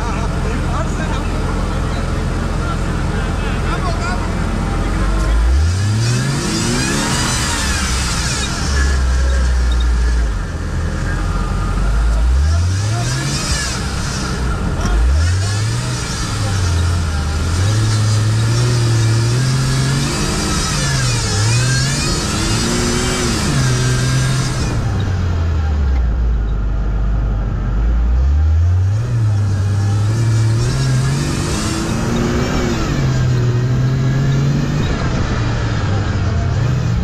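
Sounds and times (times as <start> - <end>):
car engine revving hard: 0.0 - 26.1, 28.0 - 37.0.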